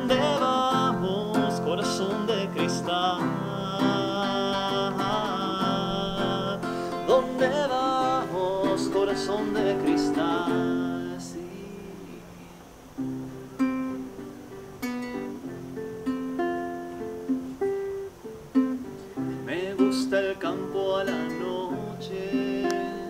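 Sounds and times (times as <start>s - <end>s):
classical guitar fingerpicked and strummed: 0.0s - 23.0s.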